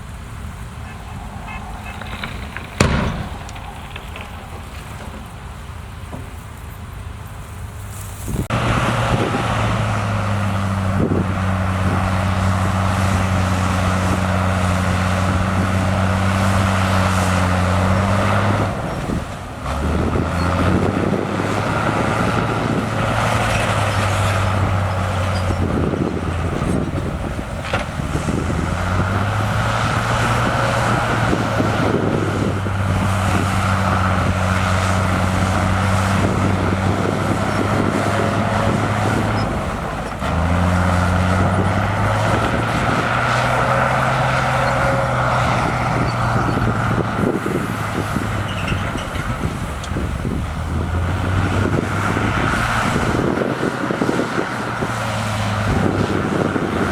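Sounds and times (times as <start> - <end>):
heavy diesel engine running: 8.3 - 56.9.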